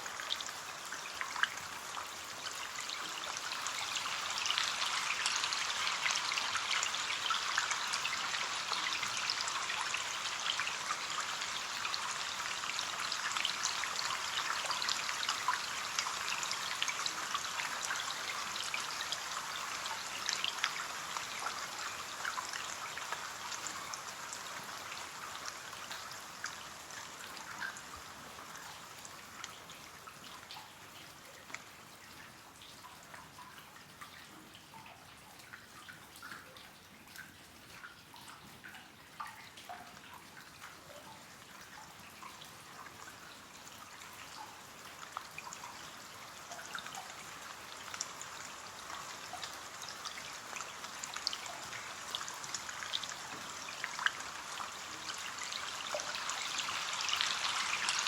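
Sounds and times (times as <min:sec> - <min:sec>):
rain pattering on a window: 0:00.0 - 0:58.0
water drips ticking: 0:00.0 - 0:58.0.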